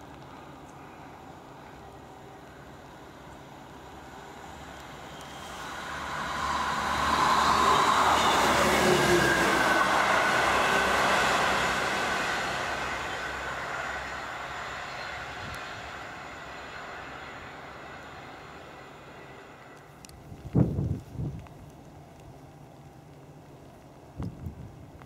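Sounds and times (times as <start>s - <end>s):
diesel train passing: 0.0s - 24.1s.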